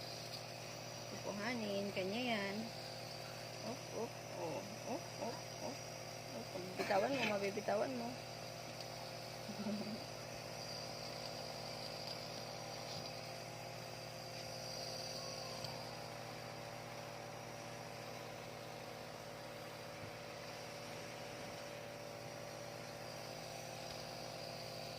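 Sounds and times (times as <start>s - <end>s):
nebulizer motor hum: 0.0s - 24.9s.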